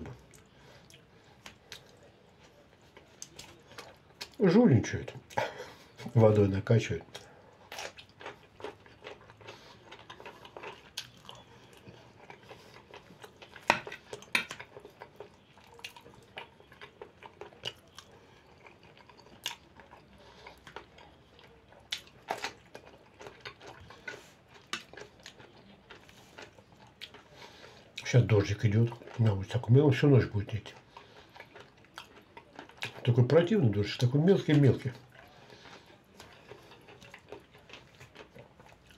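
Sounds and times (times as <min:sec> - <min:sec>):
man chewing food: 0:00.0 - 0:38.9.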